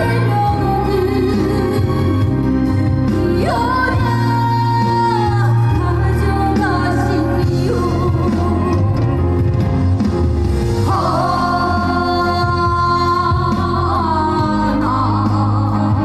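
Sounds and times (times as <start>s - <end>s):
woman singing: 0.0s - 2.4s, 3.2s - 9.2s, 10.9s - 16.0s
band accompaniment: 0.0s - 16.0s.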